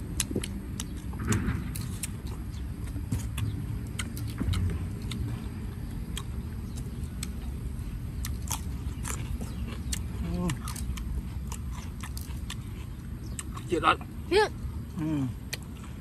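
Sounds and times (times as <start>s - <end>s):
people eating: 0.0s - 16.0s.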